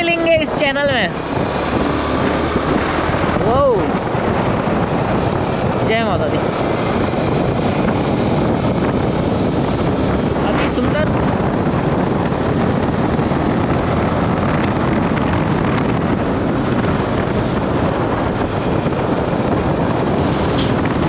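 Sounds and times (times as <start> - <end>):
motorcycle engine running: 0.0 - 21.0
wind rushing on microphone: 0.0 - 21.0.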